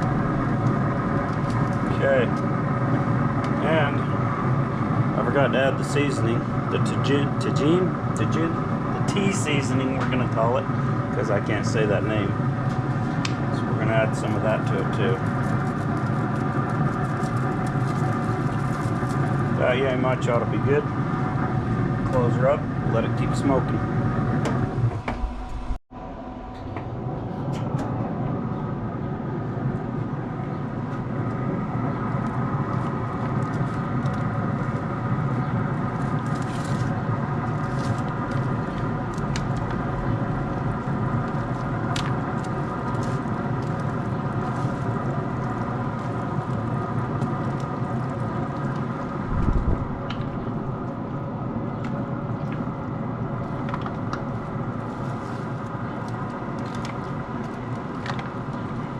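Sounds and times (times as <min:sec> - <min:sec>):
machine hum with low rumble: 0:00.0 - 0:58.9.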